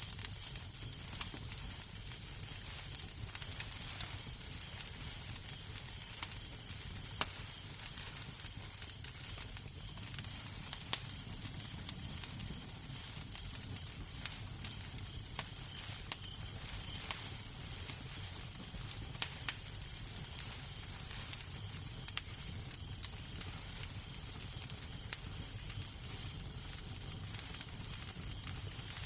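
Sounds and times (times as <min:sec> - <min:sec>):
sharp pops from fire: 0:00.0 - 0:29.0
wood fire crackling: 0:00.0 - 0:29.0.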